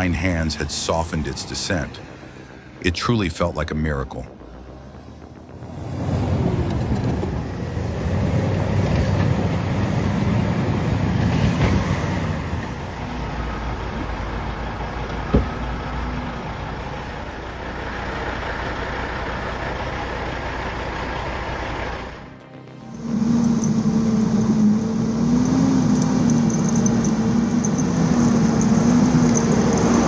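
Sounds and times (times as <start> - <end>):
heavy vehicle engine under load: 4.4 - 30.0.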